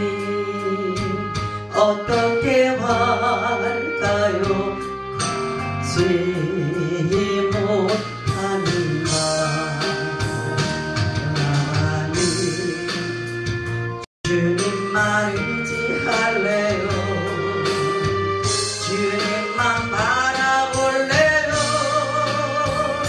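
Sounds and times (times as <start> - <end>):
woman singing into microphone: 0.0 - 5.0, 5.8 - 13.2, 14.3 - 23.0
instrumental accompaniment: 0.0 - 23.0.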